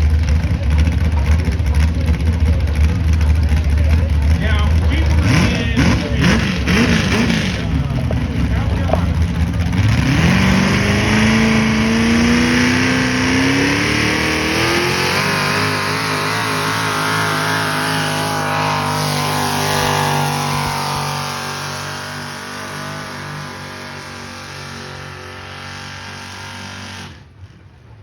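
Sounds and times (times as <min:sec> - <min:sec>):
vehicle engine under full load: 0:00.0 - 0:28.0.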